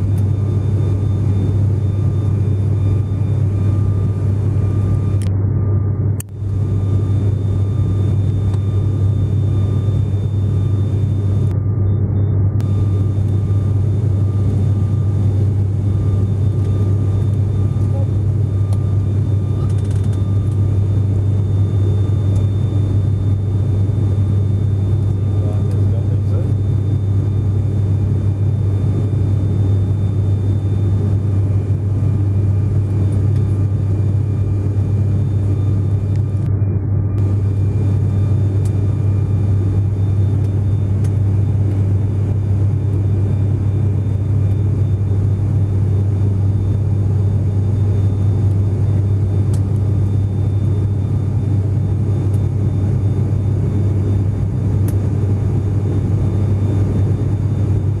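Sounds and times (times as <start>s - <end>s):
plane cabin engine drone: 0.0s - 58.0s.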